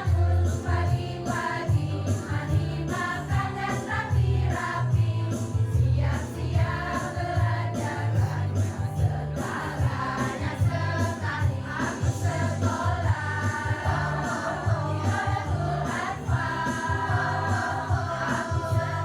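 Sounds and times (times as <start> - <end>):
choir singing: 0.0 - 19.0
instrumental accompaniment with pulsing bass: 0.0 - 19.0.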